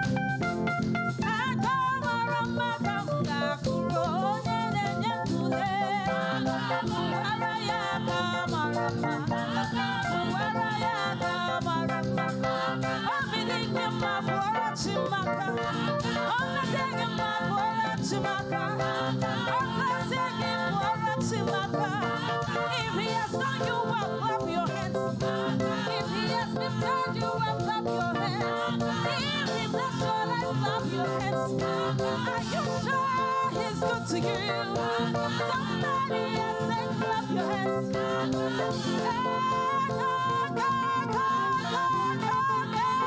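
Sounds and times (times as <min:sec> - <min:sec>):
gospel singing over a band: 0:00.0 - 0:43.0.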